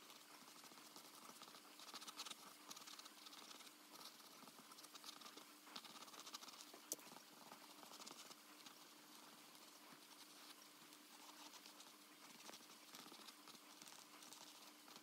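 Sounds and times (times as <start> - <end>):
faint steady hum: 0.0 - 15.0
pencil scratching on paper: 0.0 - 15.0.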